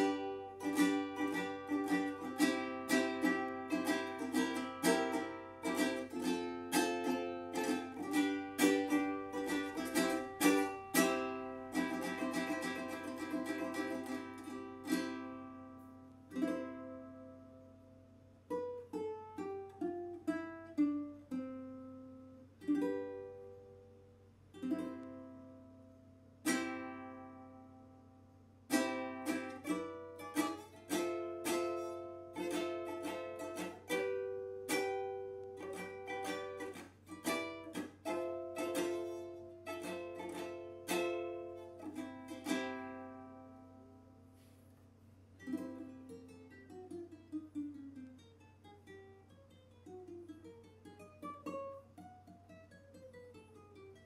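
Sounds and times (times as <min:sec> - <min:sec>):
ukulele strumming chords: 0:00.0 - 0:44.6, 0:45.2 - 0:54.0.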